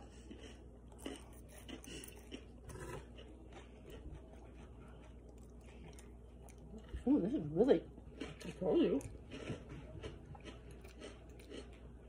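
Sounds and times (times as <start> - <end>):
chewing lettuce with soft crunches: 0.0 - 12.0.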